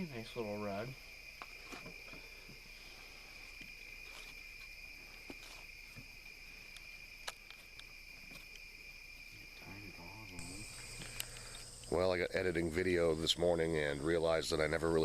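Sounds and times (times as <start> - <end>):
insects chirping chorus: 0.0 - 15.0.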